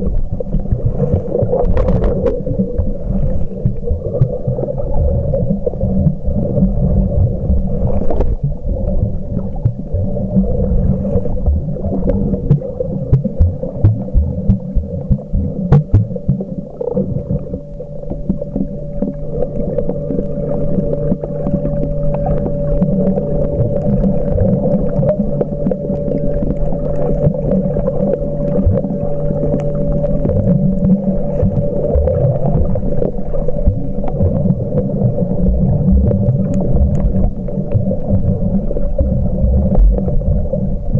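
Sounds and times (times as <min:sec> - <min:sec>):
steady low hum: 0:00.0 - 0:40.9
underwater moving water rumbling: 0:00.0 - 0:40.9.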